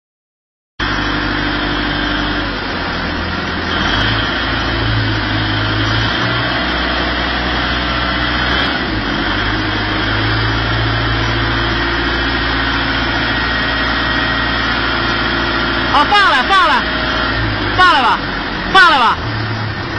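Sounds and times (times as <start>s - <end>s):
forklift machine hum: 0.8s - 19.9s.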